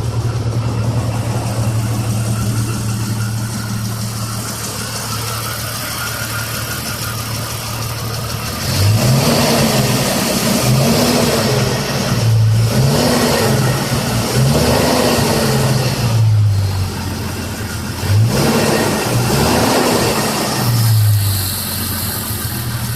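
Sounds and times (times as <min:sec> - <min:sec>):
car engine idling and revving: 0:00.0 - 0:22.9
engine valve ticking: 0:00.0 - 0:22.9.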